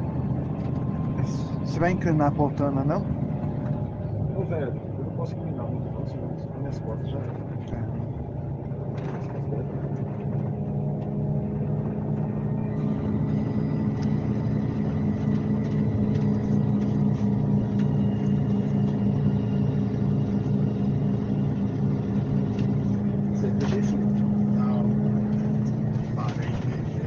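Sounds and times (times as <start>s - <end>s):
diesel engine droning: 0.0s - 27.0s
road noise: 0.0s - 27.0s.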